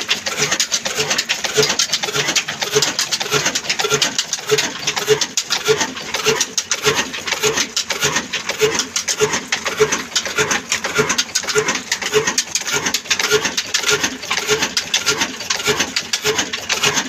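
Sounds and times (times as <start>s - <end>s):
diesel engine knocking: 0.0s - 17.0s.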